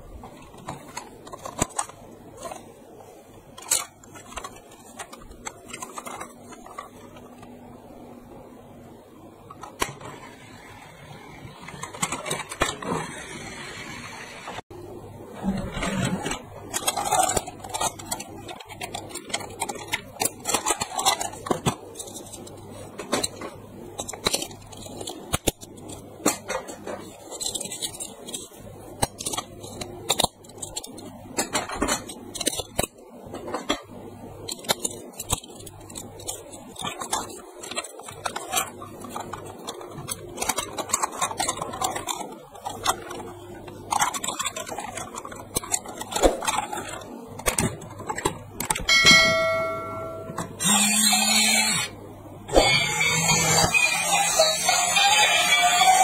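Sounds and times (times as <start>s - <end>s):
plastic toy train parts clattering: 0.2s - 7.5s, 11.5s - 14.1s, 15.4s - 56.0s.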